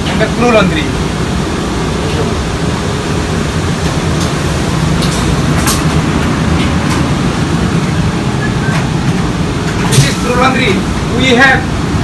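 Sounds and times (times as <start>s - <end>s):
laundry machinery rumble: 0.0s - 12.0s.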